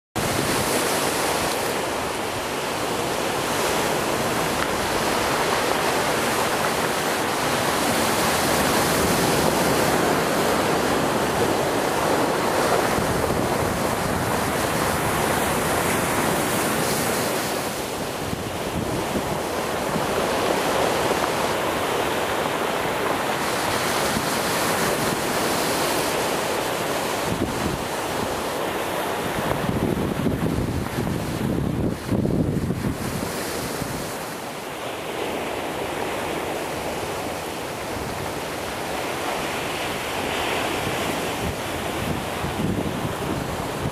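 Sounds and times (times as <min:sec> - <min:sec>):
sea surf breaking on rocks: 0:00.2 - 0:43.9
wind on microphone: 0:00.2 - 0:43.9.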